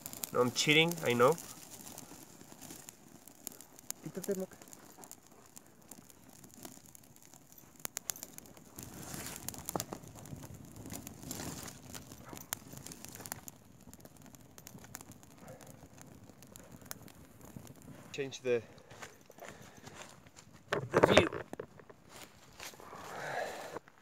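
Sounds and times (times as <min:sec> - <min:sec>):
kindling crackling and popping: 0:00.0 - 0:24.0.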